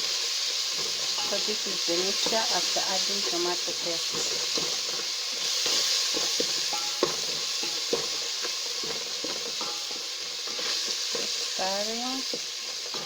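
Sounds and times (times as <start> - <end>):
paste frying in oil sizzling: 0.0 - 13.0.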